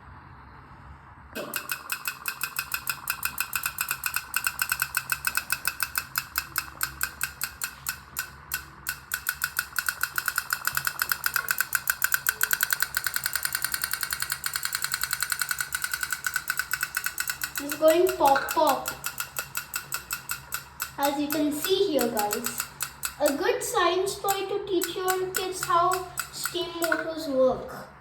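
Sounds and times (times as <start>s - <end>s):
toy steam boat popping: 1.4s - 27.6s.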